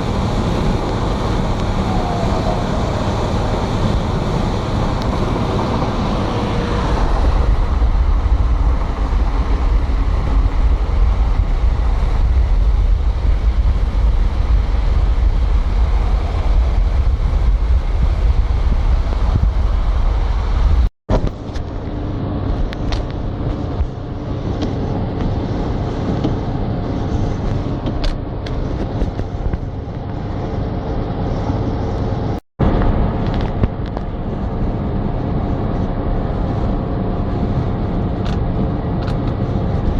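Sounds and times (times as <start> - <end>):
vehicle road noise: 0.0 - 39.9
wind rumble on microphone: 0.0 - 39.9.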